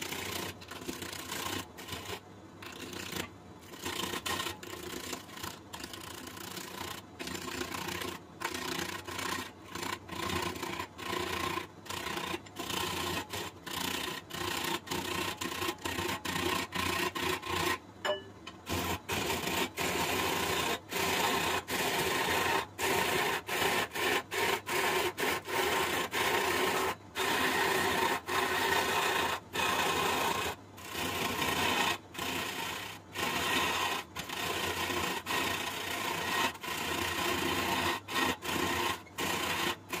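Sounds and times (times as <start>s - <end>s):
lathe tool scraping wood: 0.0s - 17.8s, 18.6s - 40.0s.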